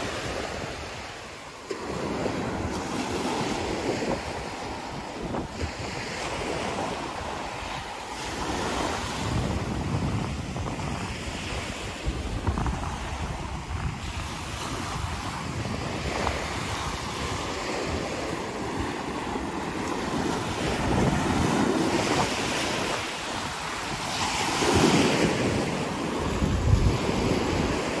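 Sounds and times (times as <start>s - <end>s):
waves breaking on shore: 0.0s - 28.0s
wind buffeting microphone: 0.0s - 28.0s.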